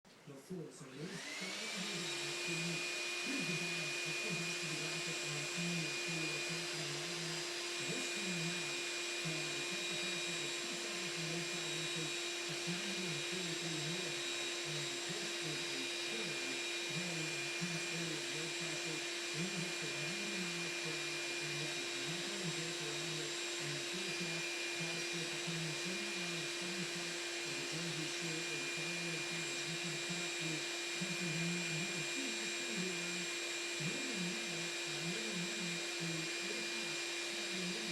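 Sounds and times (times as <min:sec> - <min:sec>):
electric motor whine: 0:00.5 - 0:37.9.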